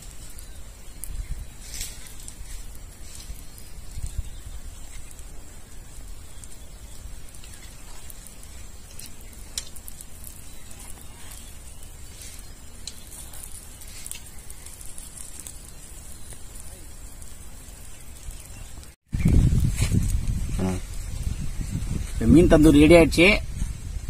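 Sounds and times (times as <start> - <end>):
charcoal crackling and popping: 0.0 - 24.0
fish sizzling on grill: 0.0 - 24.0.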